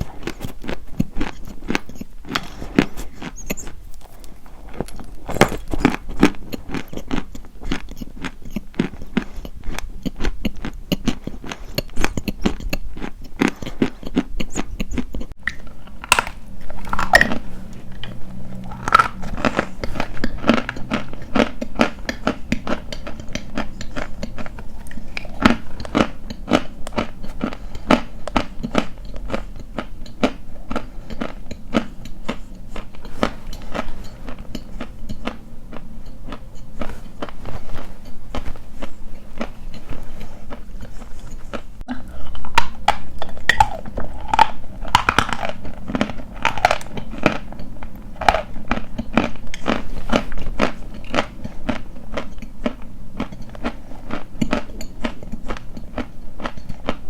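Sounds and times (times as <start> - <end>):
chalk being chewed crunching: 0.0 - 57.0.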